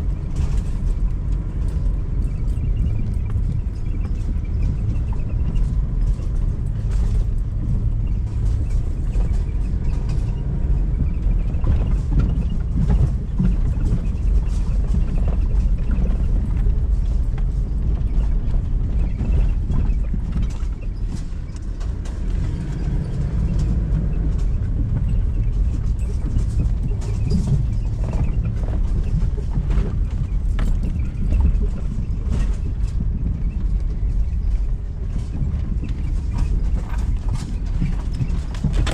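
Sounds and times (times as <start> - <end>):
rattles and knocks: 0.0 - 38.9
vehicle engine rumble: 0.0 - 38.9.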